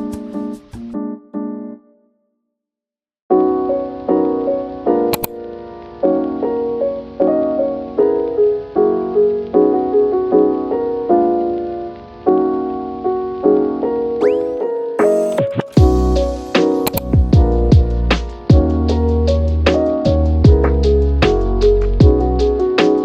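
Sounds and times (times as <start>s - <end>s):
piano chords: 0.0s - 2.1s, 3.3s - 23.0s.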